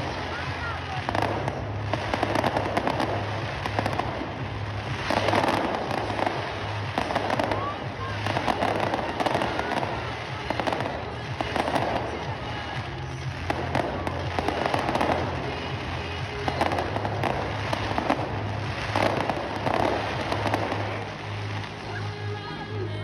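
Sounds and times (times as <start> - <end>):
fireworks bangs and crackling: 0.0 - 22.9.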